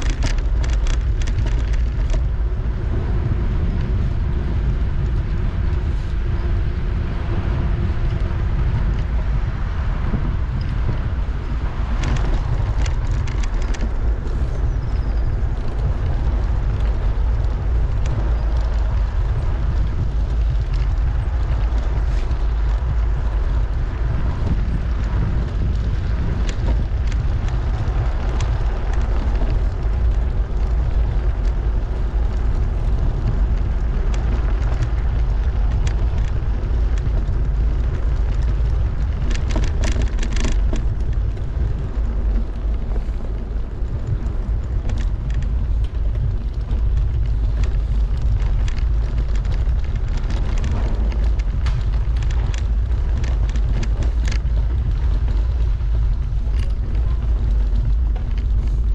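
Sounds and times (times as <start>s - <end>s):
bicycle rattling over cobblestones: 0.0s - 58.9s
wind rumble on microphone: 0.0s - 58.9s.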